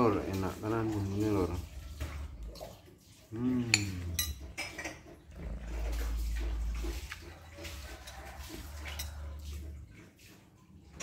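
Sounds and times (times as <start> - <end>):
man chewing food: 1.7 - 10.7.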